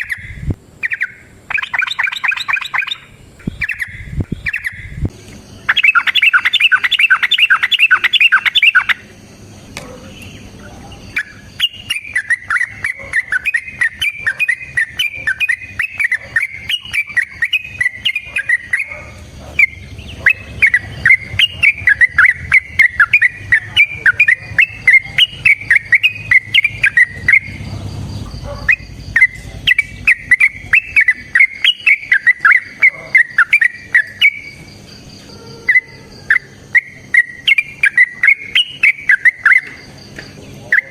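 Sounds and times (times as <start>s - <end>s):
bulbul singing rapid chattering phrases: 0.0s - 40.9s.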